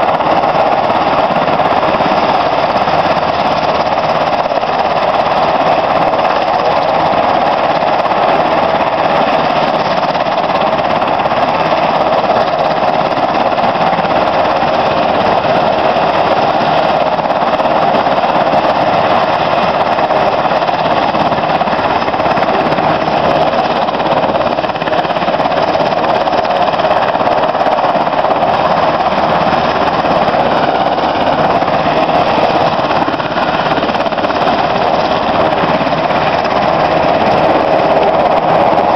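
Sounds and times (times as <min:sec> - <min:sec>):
helicopter engines and rotors: 0:00.0 - 0:38.9.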